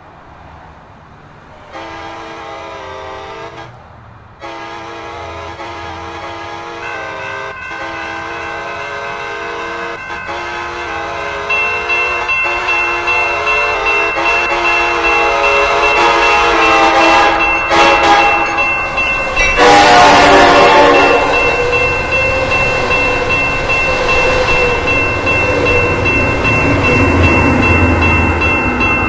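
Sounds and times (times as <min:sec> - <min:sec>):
train rushing past: 0:00.0 - 0:29.0
train horn chord: 0:01.7 - 0:03.8, 0:04.4 - 0:28.2.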